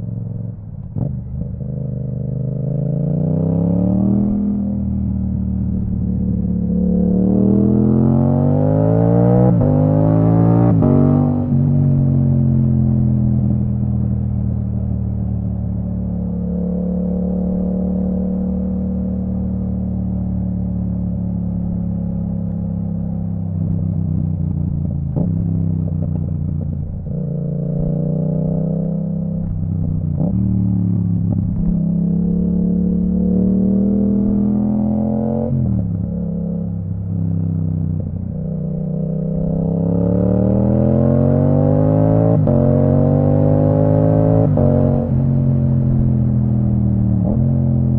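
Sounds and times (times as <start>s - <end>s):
motorcycle engine revving: 0.9s - 47.9s.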